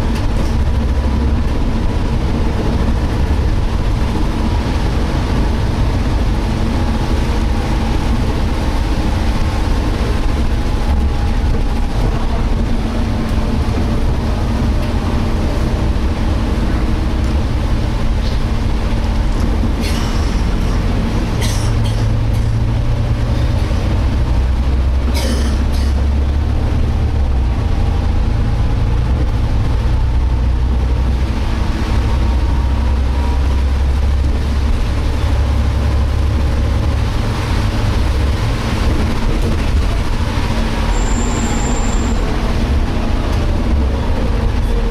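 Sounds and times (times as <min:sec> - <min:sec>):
bus engine rumbling: 0:00.0 - 0:44.9.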